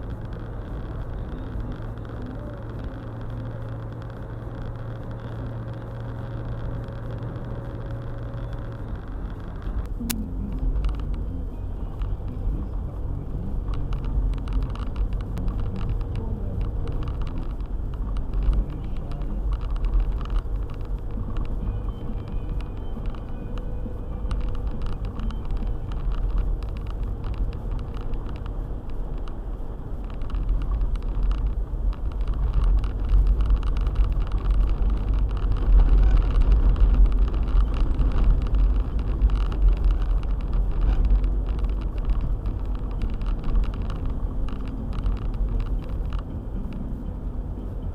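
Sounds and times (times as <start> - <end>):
car driving on snow: 0.0 - 47.9.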